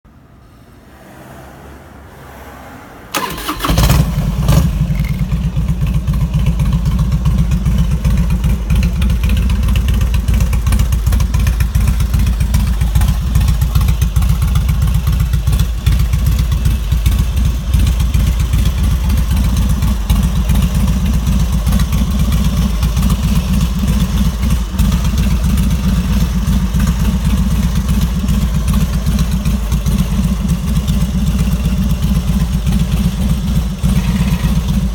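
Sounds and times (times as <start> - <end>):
motorcycle engine starting and idling: 3.1 - 34.9.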